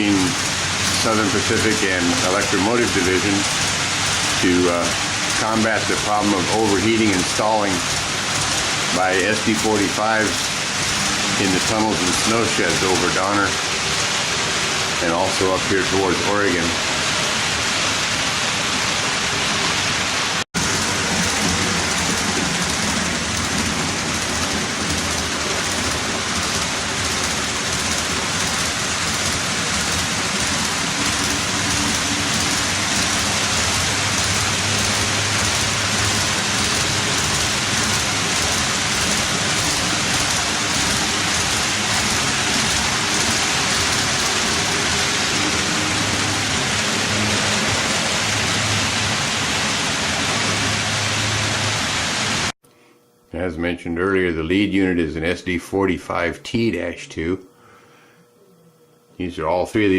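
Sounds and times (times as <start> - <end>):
train wheels rushing on rail: 0.0 - 52.5
wavering motor hum: 0.0 - 53.2.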